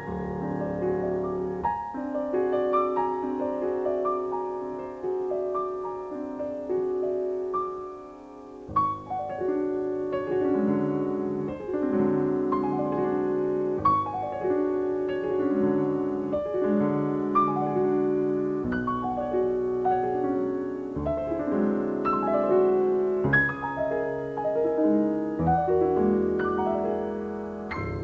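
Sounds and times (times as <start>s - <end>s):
solo piano classical music: 0.0s - 28.0s.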